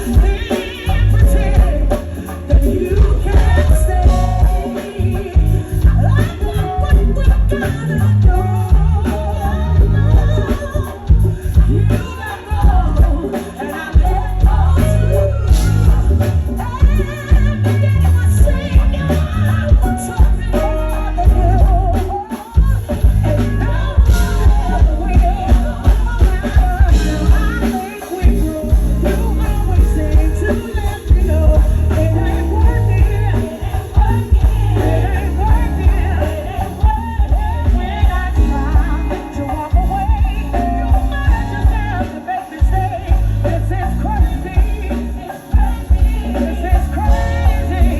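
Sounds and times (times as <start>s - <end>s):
bass beat: 0.0s - 47.9s
live band music: 0.0s - 47.9s
person singing: 0.0s - 47.9s.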